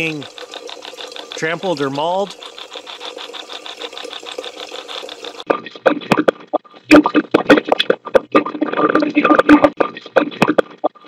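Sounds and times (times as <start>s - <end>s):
garbled voice-like fragments: 0.0s - 10.8s
stuttering chopped noise: 0.0s - 10.9s.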